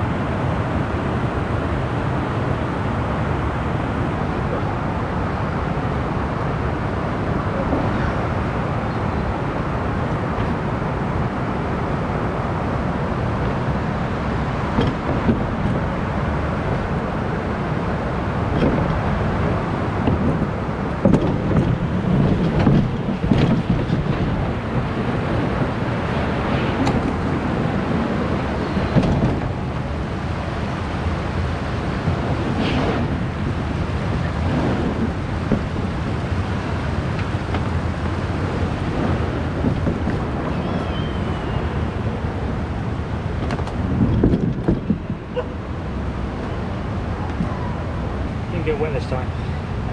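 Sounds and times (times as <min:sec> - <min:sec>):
river water: 0:00.0 - 0:49.9
wind on microphone: 0:00.0 - 0:49.9.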